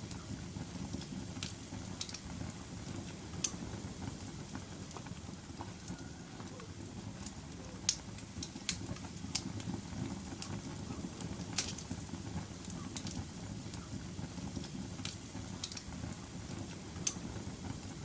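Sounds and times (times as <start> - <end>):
flames rumbling: 0.0 - 18.0
wood fire crackling and popping: 0.0 - 18.0.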